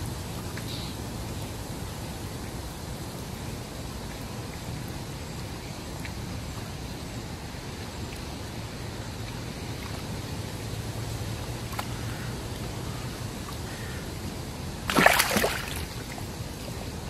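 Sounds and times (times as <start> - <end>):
water lapping at bank: 2.4 - 17.0.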